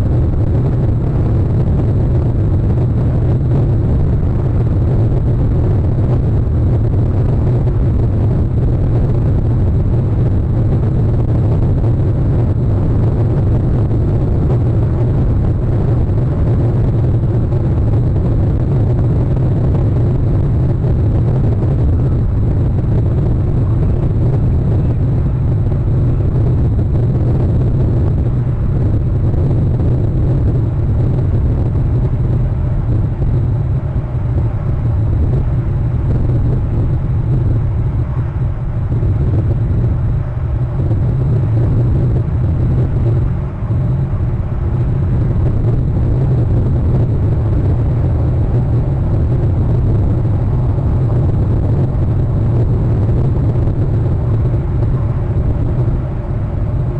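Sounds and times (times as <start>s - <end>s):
steady low rumble: 0.0s - 56.9s.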